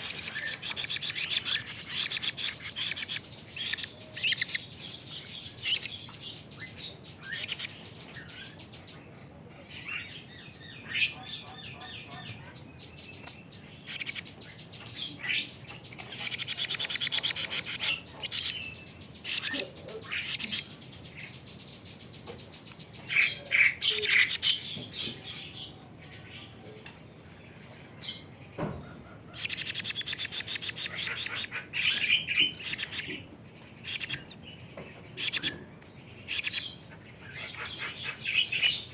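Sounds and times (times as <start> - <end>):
young cuckoo chirps and trills: 0.0 - 8.7, 9.4 - 38.9.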